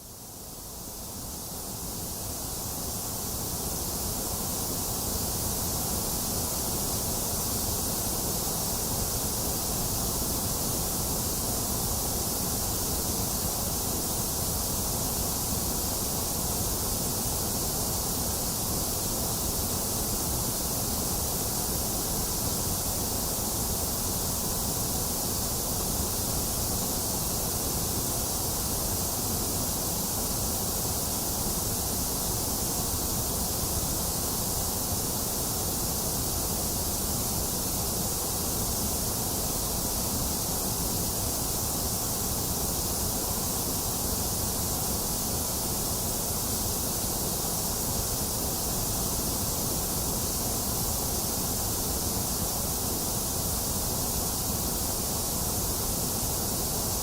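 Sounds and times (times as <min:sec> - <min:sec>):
steady white noise hiss: 0:00.0 - 0:57.0.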